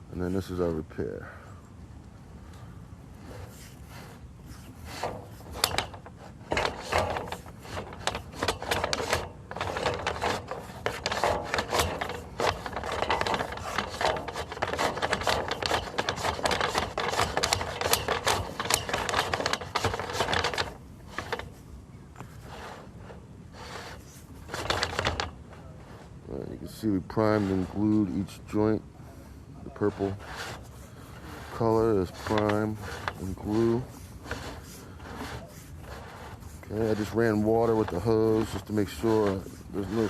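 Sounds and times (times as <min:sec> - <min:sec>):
cable rubbing and scraping in pipe: 0:03.1 - 0:21.6, 0:22.2 - 0:28.7, 0:29.7 - 0:40.0.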